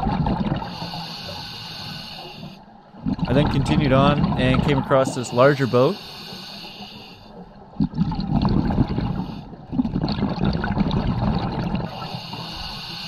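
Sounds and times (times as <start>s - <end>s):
muffled underwater bubbling: 0.0s - 1.2s, 2.9s - 6.8s, 7.4s - 12.9s.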